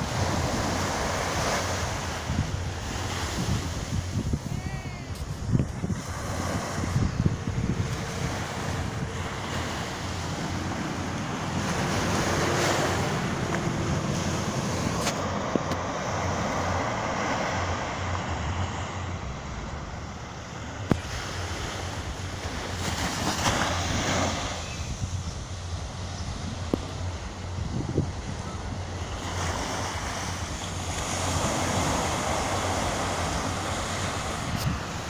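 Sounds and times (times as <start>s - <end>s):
surf washing onto beach: 0.0s - 35.0s
wind buffeting microphone: 0.0s - 35.0s.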